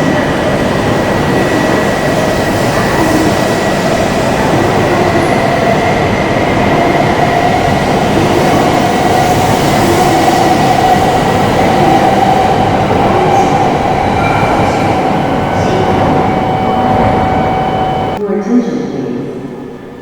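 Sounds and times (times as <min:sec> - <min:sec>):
train rumble: 0:00.0 - 0:18.2
train whine: 0:00.0 - 0:18.2.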